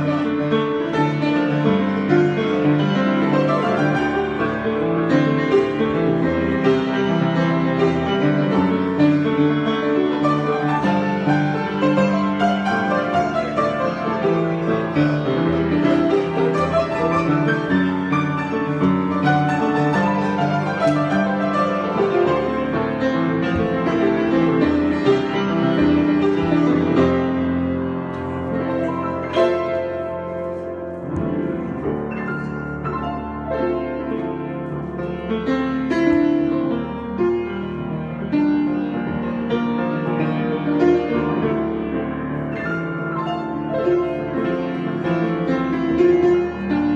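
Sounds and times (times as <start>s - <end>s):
piano improvisation: 0.0s - 46.9s.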